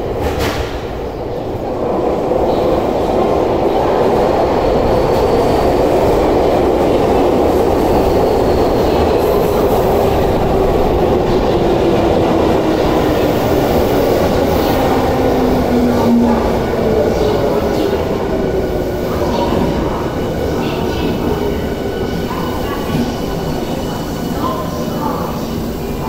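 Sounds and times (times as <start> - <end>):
subway train wheel noise: 0.0 - 26.0.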